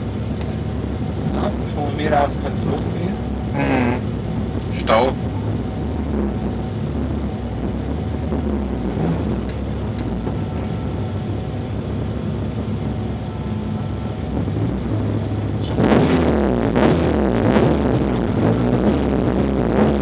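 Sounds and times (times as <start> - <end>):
car engine drone: 0.0 - 20.0
electronic music: 0.0 - 20.0.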